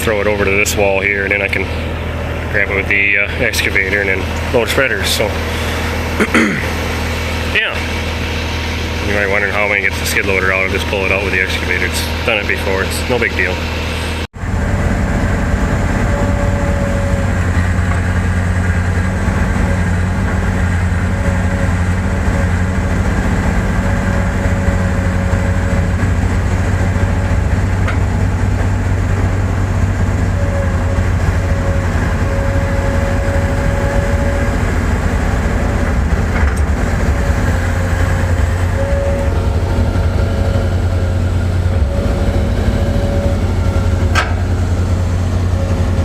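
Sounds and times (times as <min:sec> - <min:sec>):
diesel machinery engine droning: 0:00.0 - 0:46.0
thin mechanical whine: 0:00.0 - 0:46.0.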